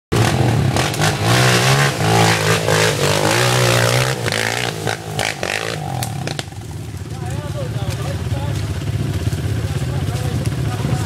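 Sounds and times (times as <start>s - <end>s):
dirt bike engine revving: 0.1s - 11.0s.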